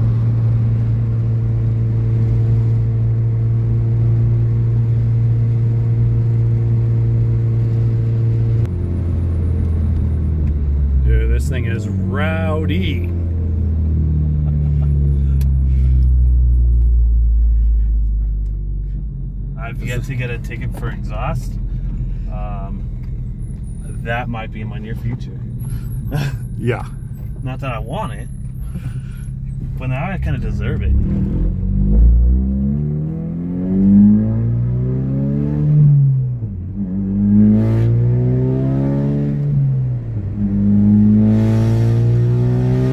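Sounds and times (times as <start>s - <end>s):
car engine droning loudly: 0.0s - 42.9s.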